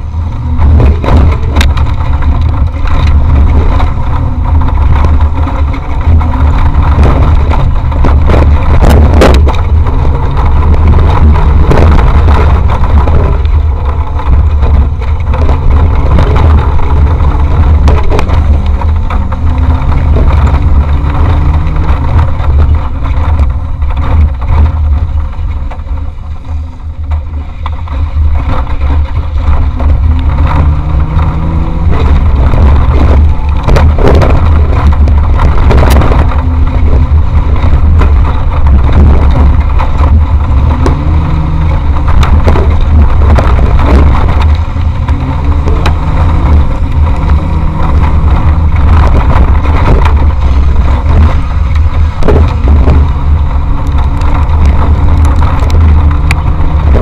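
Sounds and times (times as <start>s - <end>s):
knocks and rattles over rough ground: 0.0s - 57.0s
race vehicle engine revving: 0.0s - 57.0s.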